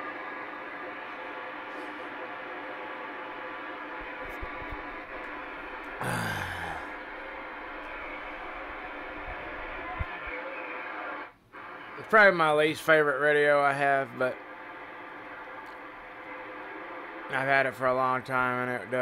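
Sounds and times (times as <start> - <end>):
radio burst with falling tone: 0.0 - 18.8
radio static and hiss: 0.0 - 19.0.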